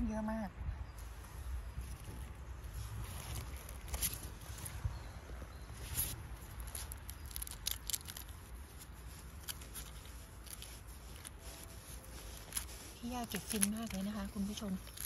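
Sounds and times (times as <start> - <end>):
rustling and crackling mushrooms: 1.0 - 15.0.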